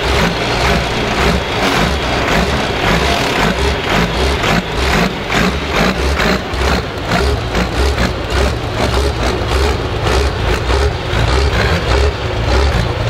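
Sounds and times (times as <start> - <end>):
tractor diesel engines running: 0.0 - 13.0.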